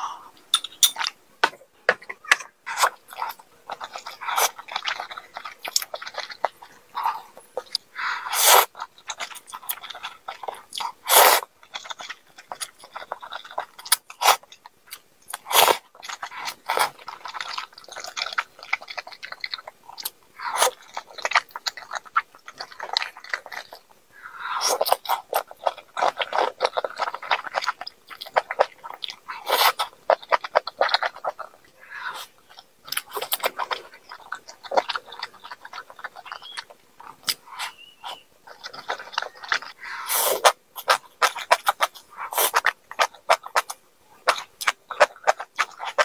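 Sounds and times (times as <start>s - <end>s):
person chewing: 1.9s - 46.0s.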